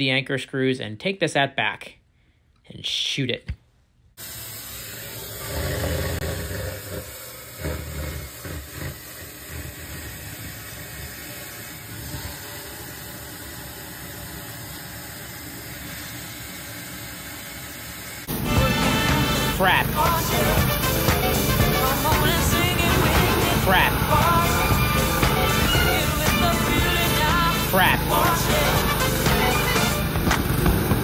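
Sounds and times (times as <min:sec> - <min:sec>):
hose spraying water: 0:04.2 - 0:31.0.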